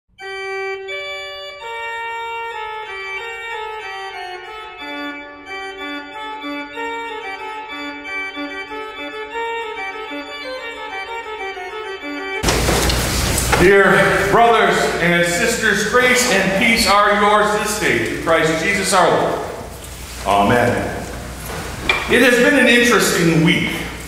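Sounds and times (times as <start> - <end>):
organ playing held chords: 0.1 - 24.0.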